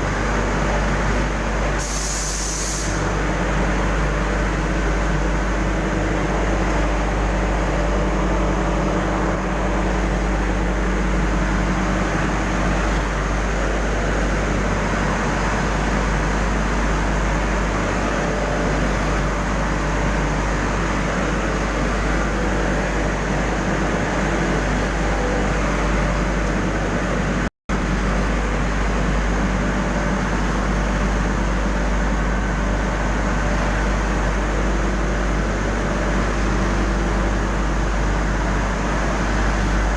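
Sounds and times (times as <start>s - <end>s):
industrial machinery noise: 0.0s - 39.9s.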